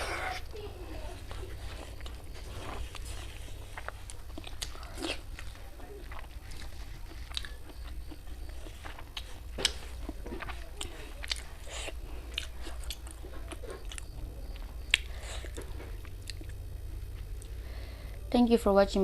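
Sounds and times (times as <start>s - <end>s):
person chewing food: 0.0s - 18.2s
steady low hum: 0.0s - 19.0s.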